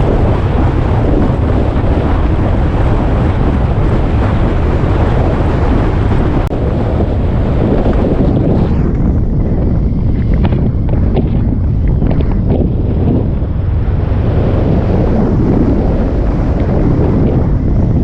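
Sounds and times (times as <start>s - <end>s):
motorcycle rumble: 0.0s - 18.0s
wind buffeting microphone: 0.0s - 18.0s.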